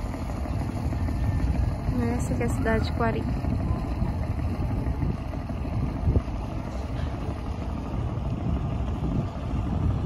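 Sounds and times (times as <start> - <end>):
boat engine rumble: 0.0 - 10.0
wind buffeting microphone: 0.0 - 10.0.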